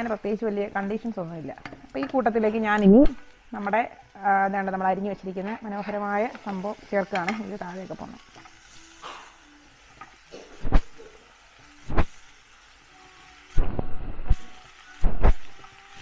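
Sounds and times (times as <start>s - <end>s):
faint sizzle: 0.0s - 16.0s.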